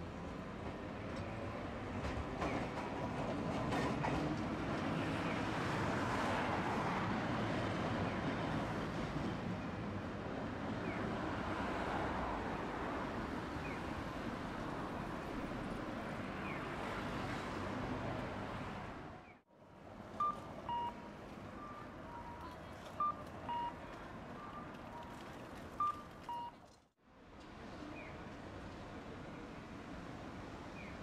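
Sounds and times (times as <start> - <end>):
road traffic hum: 0.0 - 31.0.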